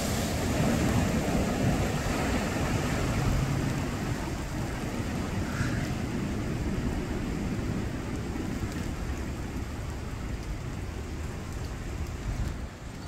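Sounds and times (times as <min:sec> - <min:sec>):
rain and floodwater rushing: 0:00.0 - 0:13.0.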